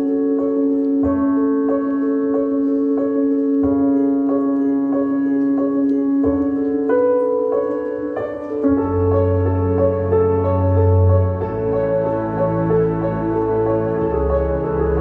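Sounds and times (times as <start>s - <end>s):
keyboard notes: 0.0s - 15.0s.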